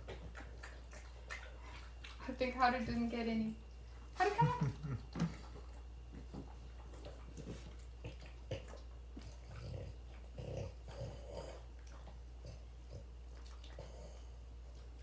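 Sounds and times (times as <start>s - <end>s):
dogs chewing: 0.0s - 15.0s.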